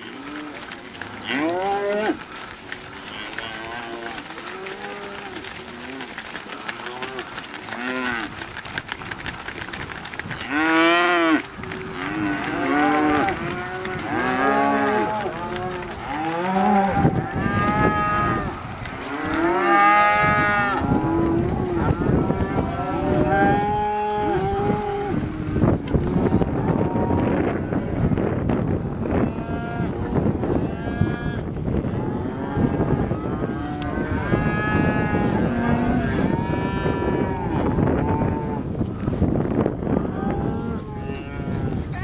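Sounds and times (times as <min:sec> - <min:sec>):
cattle mooing: 0:00.0 - 0:08.4, 0:10.4 - 0:28.2, 0:29.1 - 0:38.7.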